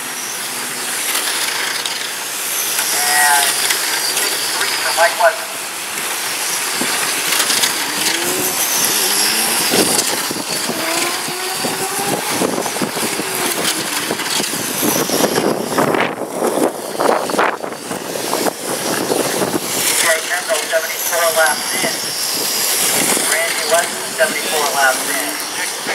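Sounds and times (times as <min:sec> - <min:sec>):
electric motor whine passing: 0:00.0 - 0:25.9.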